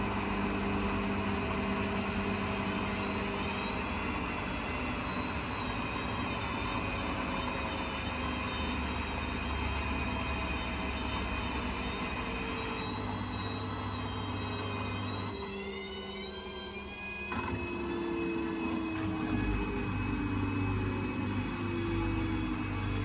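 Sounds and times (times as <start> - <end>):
washing machine motor whine: 0.0 - 23.0.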